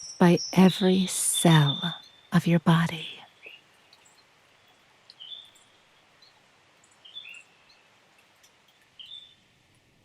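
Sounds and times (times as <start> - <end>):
bird chirping: 0.0 - 8.0, 8.9 - 9.6
faint forest ambience hiss: 0.0 - 10.0.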